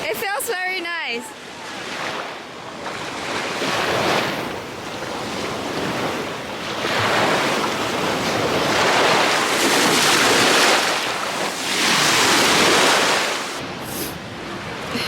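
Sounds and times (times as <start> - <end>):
sea waves washing onto shore: 1.4 - 14.8.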